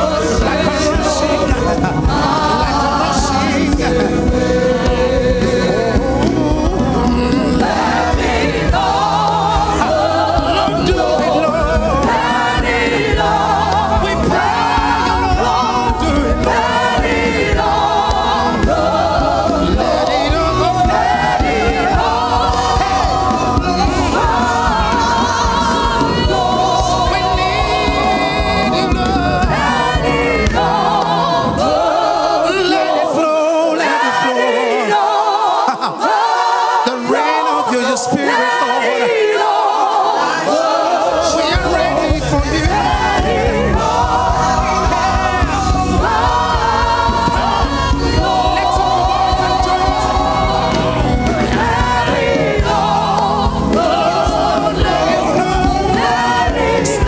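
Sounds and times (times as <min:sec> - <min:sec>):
band accompaniment: 0:00.0 - 0:57.0
gospel choir singing: 0:00.0 - 0:57.0.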